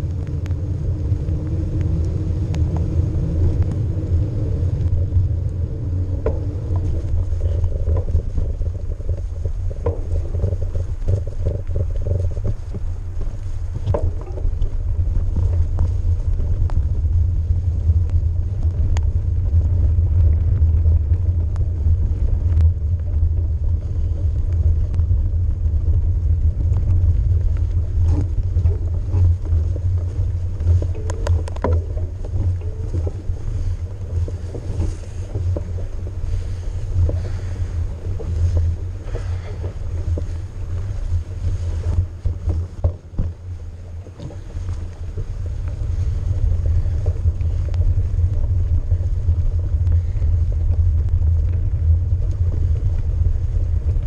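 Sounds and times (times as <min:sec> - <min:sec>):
bike clicks and knocks: 0:00.0 - 0:54.0
bike tyres rolling on dirt: 0:00.0 - 0:54.0
wind buffeting microphone: 0:00.0 - 0:54.0.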